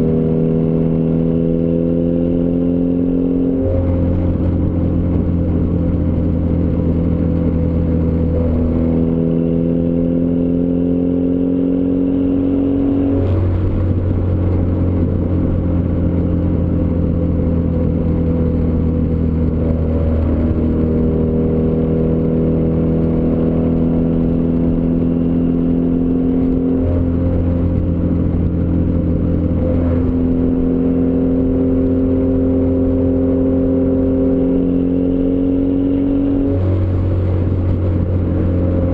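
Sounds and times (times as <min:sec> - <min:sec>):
turbocharged car engine droning: 0:00.0 - 0:38.9.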